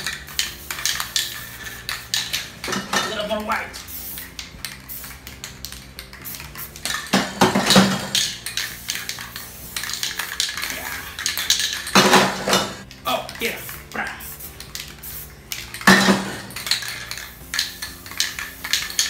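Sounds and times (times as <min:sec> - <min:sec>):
spray paint cans clinking: 0:00.0 - 0:19.0.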